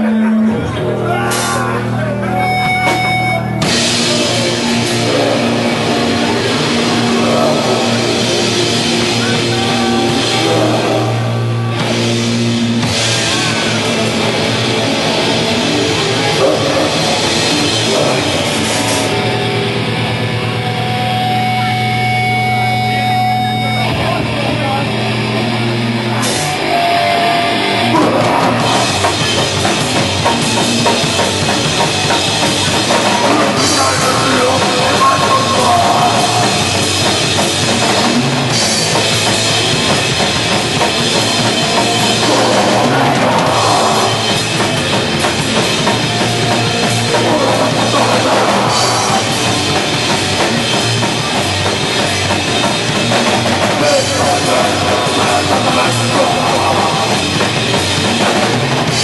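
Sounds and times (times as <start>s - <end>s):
distorted guitars: 0.0s - 59.0s
drum kit: 0.0s - 59.0s.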